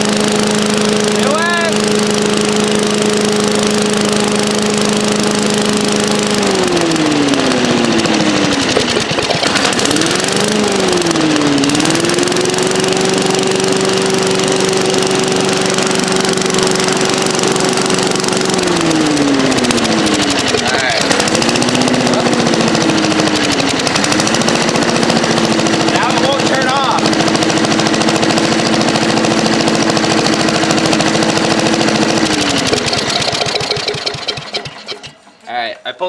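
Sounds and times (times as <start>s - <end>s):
leaf blower engine running: 0.0s - 36.0s.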